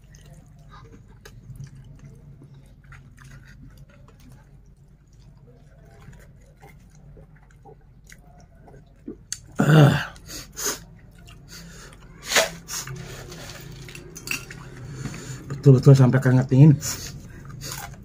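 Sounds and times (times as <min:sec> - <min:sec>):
man chewing: 0:00.0 - 0:15.6, 0:16.8 - 0:18.0.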